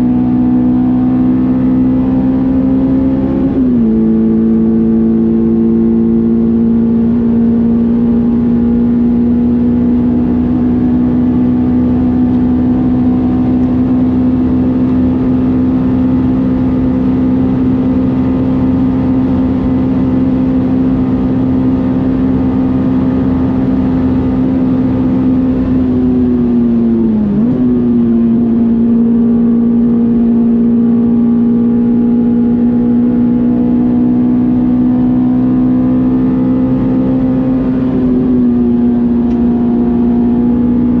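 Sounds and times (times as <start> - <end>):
car engine running steadily: 0.0 - 41.0.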